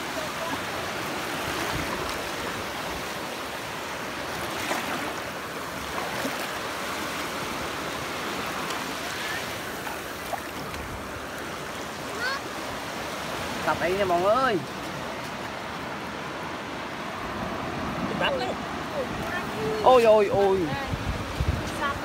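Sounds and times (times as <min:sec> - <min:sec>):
small waves washing over sand: 0:00.0 - 0:22.0.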